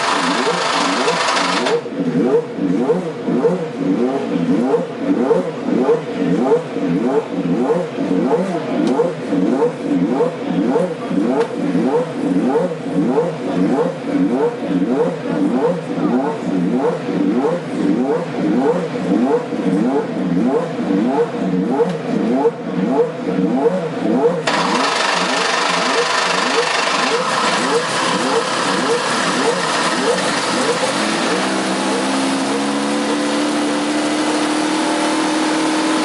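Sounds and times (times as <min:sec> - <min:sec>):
racing car engine revving: 0:00.0 - 0:36.0.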